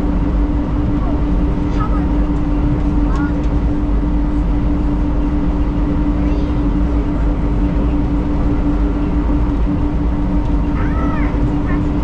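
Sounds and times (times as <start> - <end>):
drive motor hum: 0.0 - 12.0.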